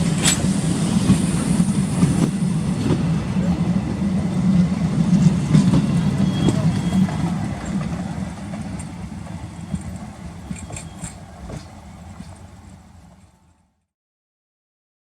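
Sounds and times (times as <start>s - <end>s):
locomotive idling hum: 0.0s - 13.8s.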